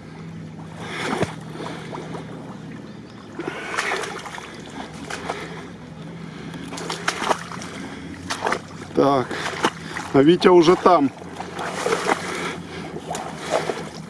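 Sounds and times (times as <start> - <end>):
steady low hum: 0.0 - 14.0
wading through shallow water: 0.0 - 14.0.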